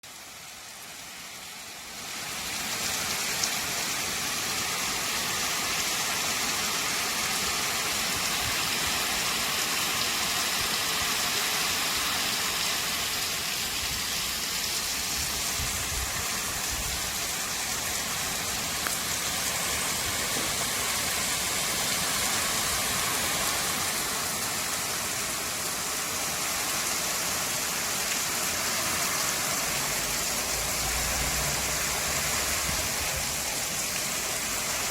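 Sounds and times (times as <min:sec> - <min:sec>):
rain falling on bamboo: 0:00.0 - 0:34.9.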